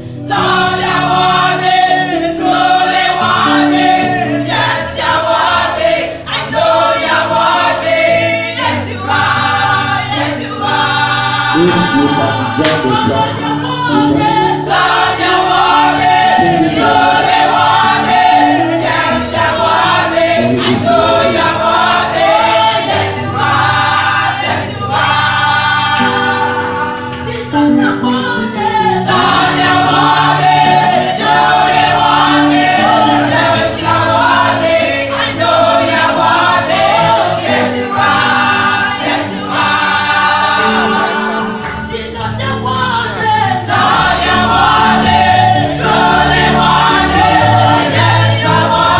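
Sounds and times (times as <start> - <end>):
choir and congregation singing: 0.0 - 48.9
instrumental accompaniment: 0.0 - 48.9.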